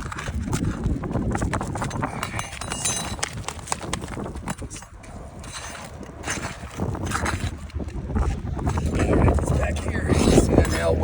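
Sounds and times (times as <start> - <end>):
hand tools clicking and scraping: 0.0 - 11.0
wind rumbling on microphone: 0.0 - 11.0.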